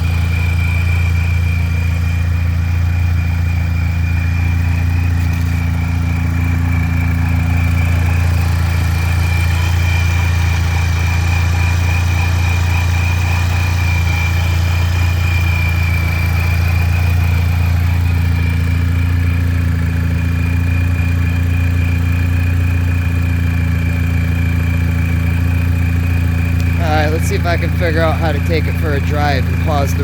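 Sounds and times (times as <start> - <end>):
car engine idling: 0.0 - 30.0
supercharger whine: 0.0 - 30.0.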